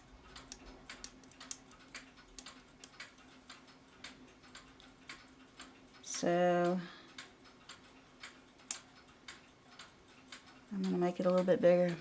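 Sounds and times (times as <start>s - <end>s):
mechanical clocks ticking: 0.0s - 12.0s.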